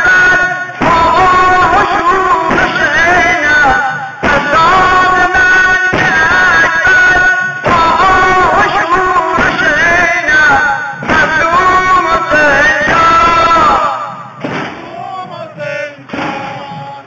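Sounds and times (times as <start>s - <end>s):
man chanting a lament: 0.0s - 17.0s
struck beats: 0.0s - 17.0s.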